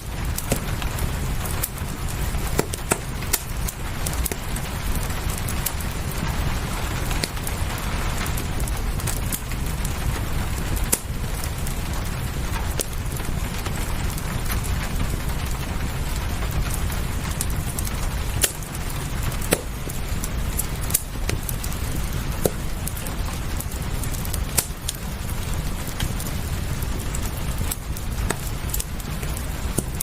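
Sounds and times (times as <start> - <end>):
fireplace crackling and popping: 0.0 - 30.0
rain: 0.0 - 30.0.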